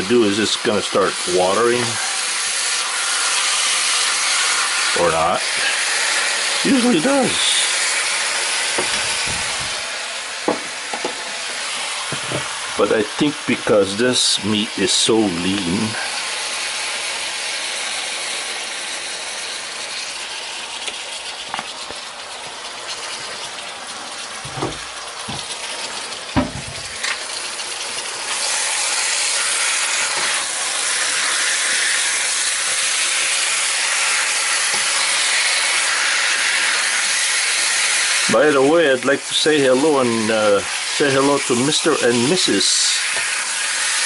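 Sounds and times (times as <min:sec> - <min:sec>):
meat sizzling in oil: 0:00.0 - 0:44.0.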